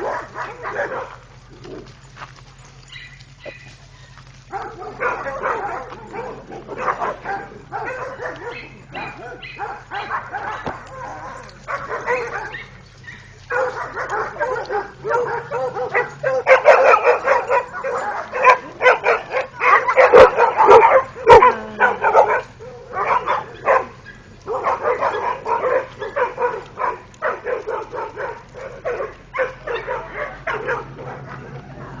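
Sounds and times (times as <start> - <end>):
dogs barking: 0.0 - 32.0.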